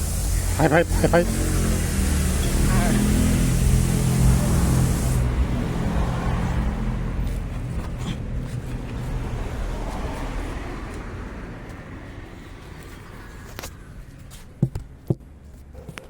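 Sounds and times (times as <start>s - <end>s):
vehicle engine rumble: 0.0s - 15.7s.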